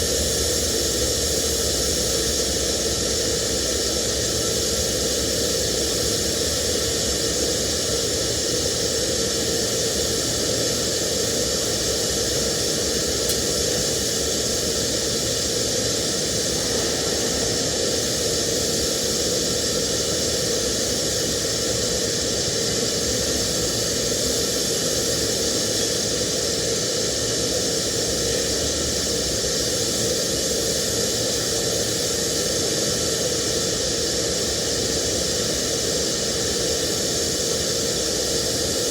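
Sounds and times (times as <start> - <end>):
steady hum: 0.0 - 38.9
welding arc hissing: 0.0 - 38.9.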